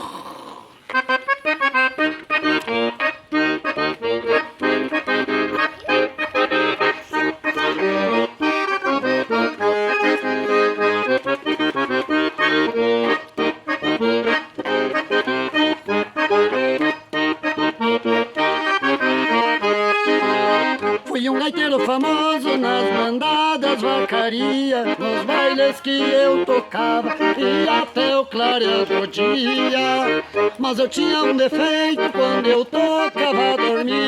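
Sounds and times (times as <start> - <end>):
accordion bass accompaniment: 0.0 - 34.0
accordion melody: 0.8 - 34.0.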